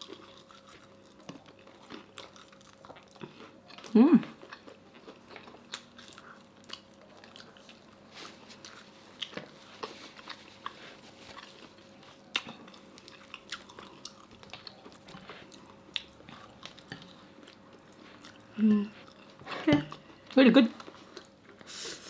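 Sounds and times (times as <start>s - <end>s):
mouth chewing sounds: 0.0s - 22.0s.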